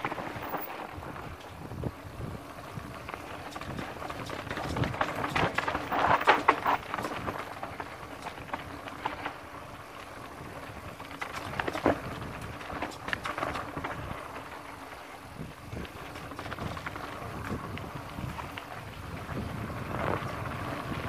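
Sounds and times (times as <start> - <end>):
bike rattling and knocking: 0.0 - 21.0
bike tyres on loose dirt: 0.0 - 21.0.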